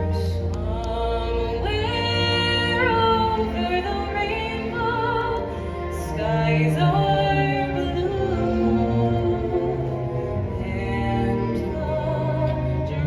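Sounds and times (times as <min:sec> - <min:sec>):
soft orchestral accompaniment: 0:00.0 - 0:13.0.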